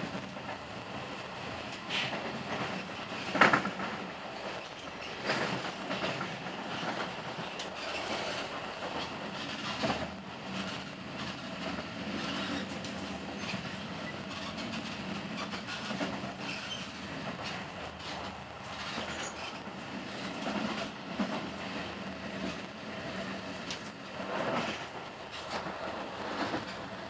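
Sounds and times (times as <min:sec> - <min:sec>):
train running gear rumble: 0:00.0 - 0:27.0
wheels clacking over rail joints: 0:01.7 - 0:27.0.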